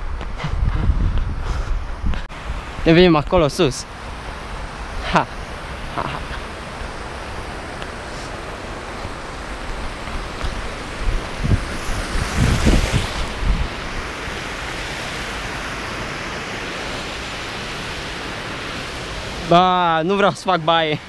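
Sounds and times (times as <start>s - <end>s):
wind buffeting microphone: 0.0s - 19.4s
water rushing over weir: 2.3s - 21.0s.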